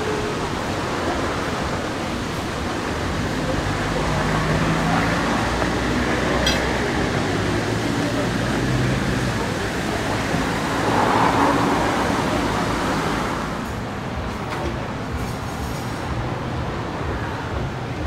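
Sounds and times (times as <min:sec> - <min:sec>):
city traffic hum: 0:00.0 - 0:18.0.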